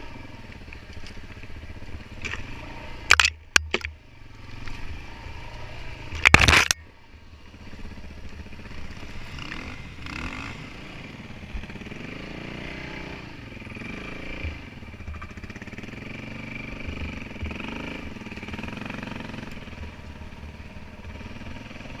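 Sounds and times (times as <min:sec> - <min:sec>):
dirt bike engine revving: 0:01.5 - 0:06.8, 0:07.4 - 0:22.0.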